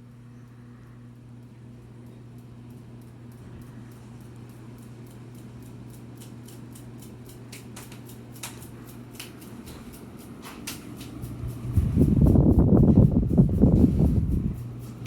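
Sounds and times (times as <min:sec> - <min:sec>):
ceiling fan motor humming: 0:00.0 - 0:15.0
light regular ticking: 0:01.0 - 0:15.0.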